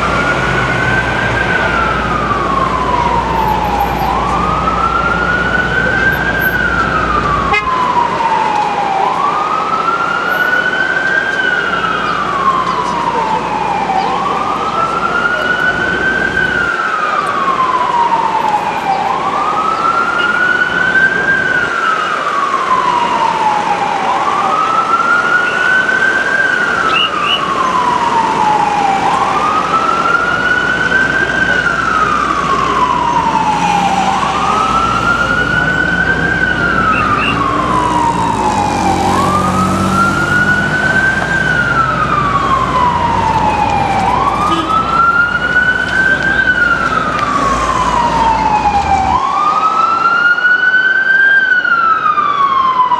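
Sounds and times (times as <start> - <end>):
ambulance siren wailing: 0.0 - 52.9
street traffic: 0.0 - 52.9.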